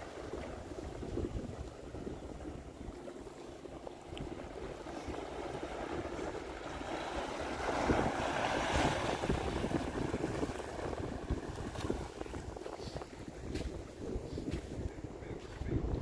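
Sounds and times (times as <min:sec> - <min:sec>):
small waves washing over sand: 0:00.0 - 0:16.0.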